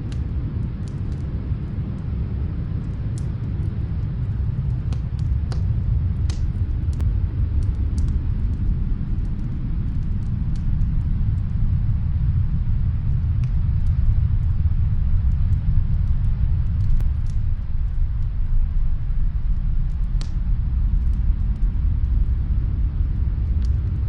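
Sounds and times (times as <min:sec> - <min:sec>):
fireplace crackles: 0:00.0 - 0:24.0
snowstorm wind rumble: 0:00.0 - 0:24.0.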